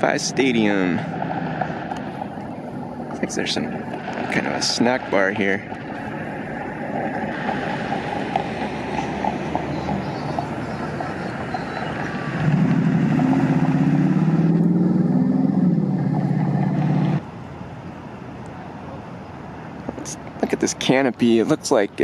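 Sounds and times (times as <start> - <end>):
car engine running close: 0.0 - 19.0
street traffic: 0.0 - 22.0.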